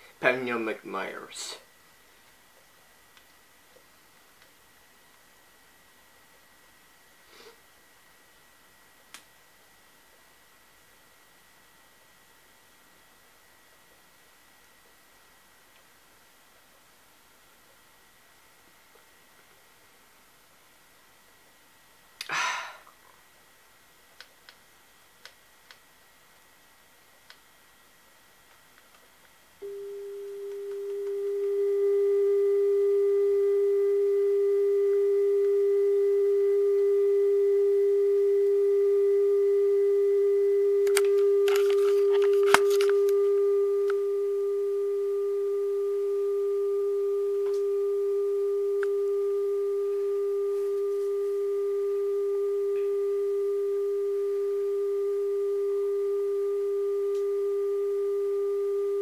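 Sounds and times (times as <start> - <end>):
steady pure tone from speaker: 0.0 - 59.0.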